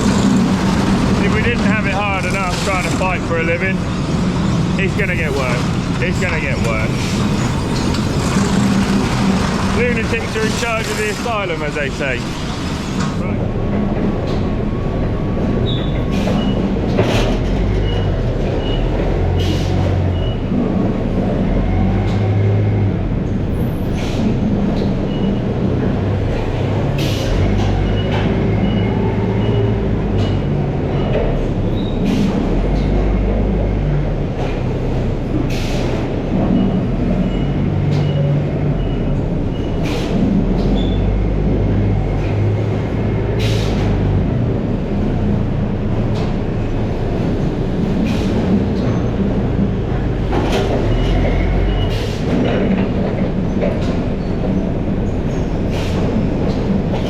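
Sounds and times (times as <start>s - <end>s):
machinery clattering: 0.0s - 22.3s, 23.2s - 57.0s.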